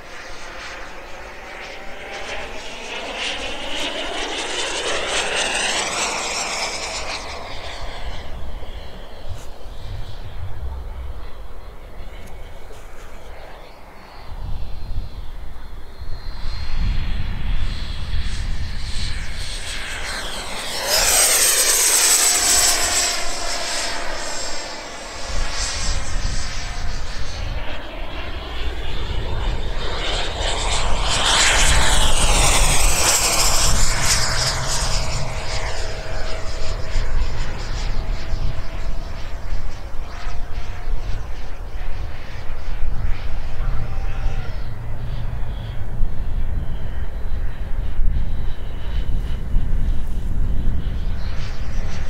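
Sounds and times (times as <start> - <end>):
model jet fan whining: 0.0 - 52.0.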